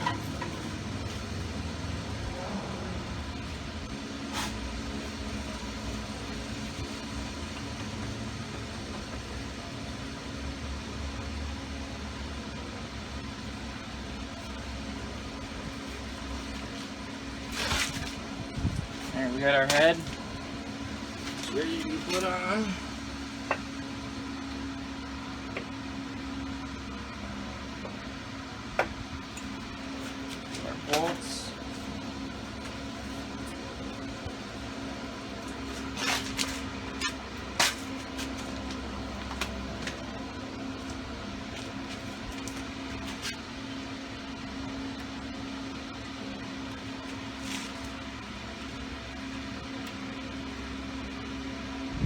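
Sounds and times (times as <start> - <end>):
low machine hum: 0.0 - 52.0.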